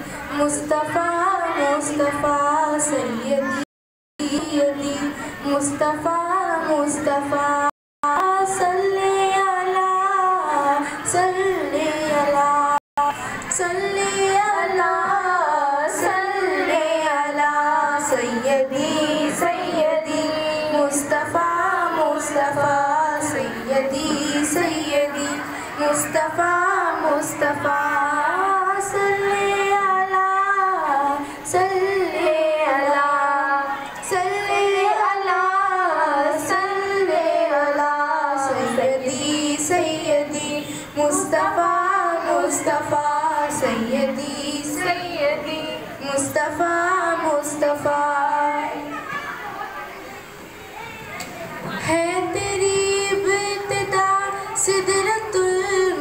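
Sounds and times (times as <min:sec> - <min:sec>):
girl singing into a microphone: 0:00.0 - 0:49.4, 0:50.8 - 0:56.0.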